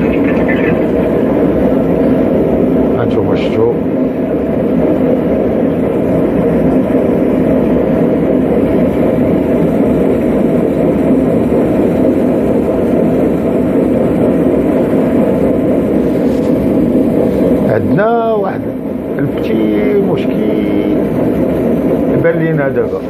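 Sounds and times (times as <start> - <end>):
gas water heater burner rushing: 0.0 - 23.0.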